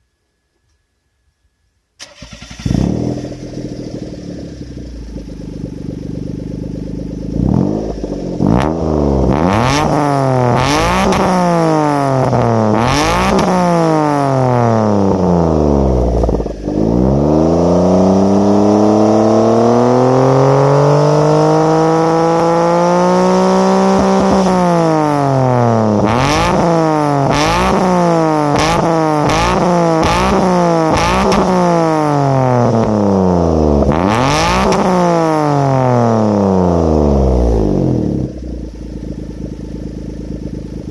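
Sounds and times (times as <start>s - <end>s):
car engine idling and revving: 2.0s - 40.9s.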